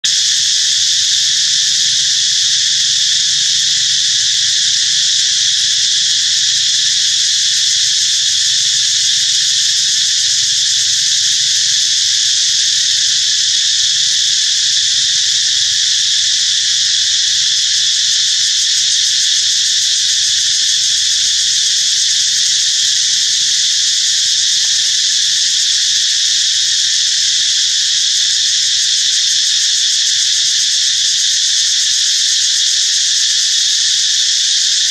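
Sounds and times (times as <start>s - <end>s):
insect chorus buzzing: 0.0s - 34.9s.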